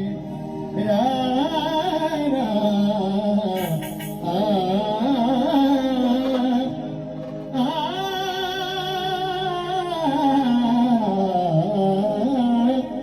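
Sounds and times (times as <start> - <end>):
man singing long held note: 0.0 - 13.0.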